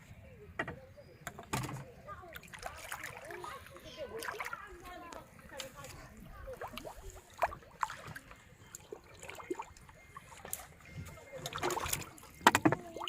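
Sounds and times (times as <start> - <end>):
water splashing and trickling: 1.3 - 13.0.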